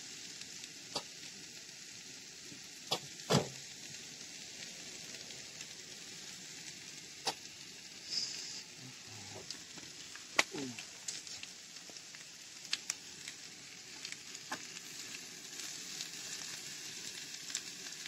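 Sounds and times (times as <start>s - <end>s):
potatoes sizzling in a pan: 0.0s - 18.0s.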